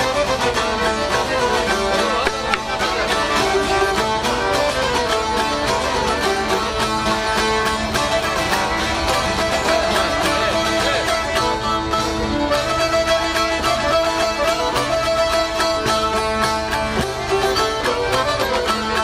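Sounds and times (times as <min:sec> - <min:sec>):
accordion: 0:00.0 - 0:19.0
fiddle: 0:00.0 - 0:19.0
strummed lutes: 0:00.0 - 0:19.0.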